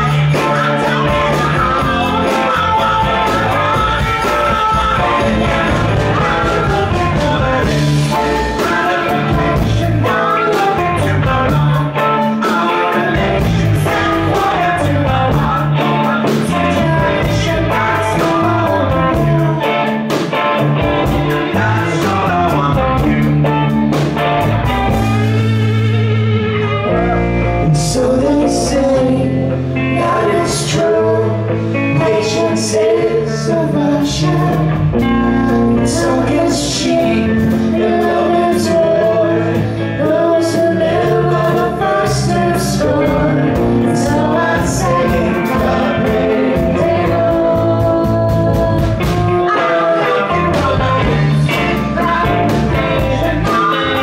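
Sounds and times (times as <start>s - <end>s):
live rock band playing: 0.0s - 54.0s
woman singing lead: 0.0s - 54.0s.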